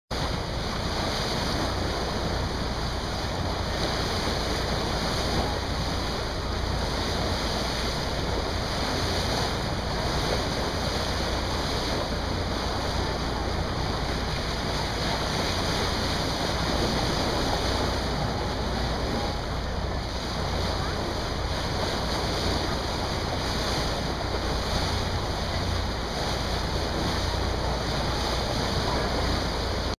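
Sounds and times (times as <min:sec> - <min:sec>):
rush of wind and water: 0:00.1 - 0:30.0
wind buffeting microphone: 0:00.1 - 0:30.0.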